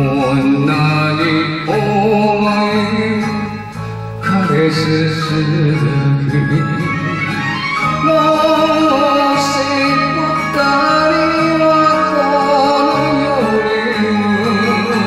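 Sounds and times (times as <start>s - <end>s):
karaoke backing track: 0.0s - 15.0s
man singing with vibrato: 0.0s - 15.0s.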